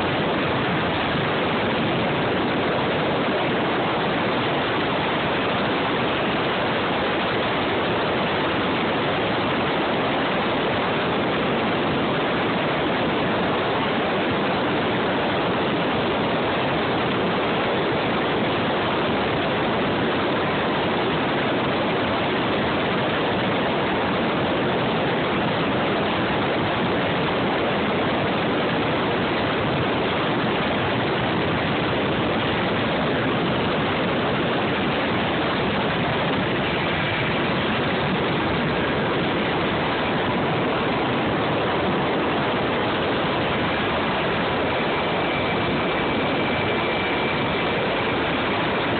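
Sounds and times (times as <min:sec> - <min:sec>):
helicopter cabin noise: 0:00.0 - 0:48.9.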